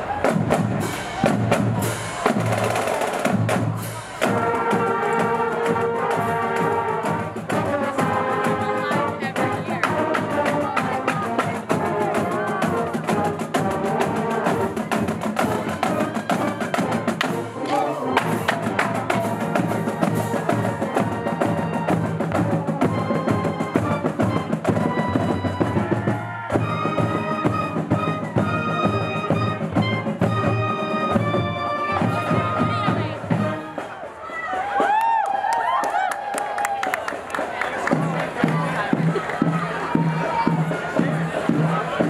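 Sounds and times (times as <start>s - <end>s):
marching band playing: 0.0s - 35.0s, 36.8s - 42.0s.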